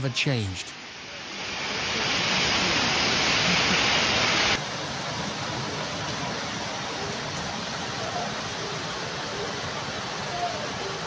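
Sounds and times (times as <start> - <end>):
heavy rain and floodwater: 0.0 - 11.0.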